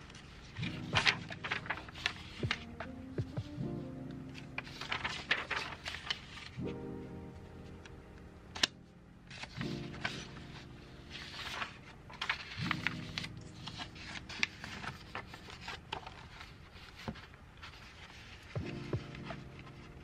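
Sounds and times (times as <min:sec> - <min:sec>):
paper sheets rustling and sliding: 0:00.0 - 0:03.4, 0:04.3 - 0:06.8, 0:09.3 - 0:20.0
background music: 0:00.0 - 0:20.0.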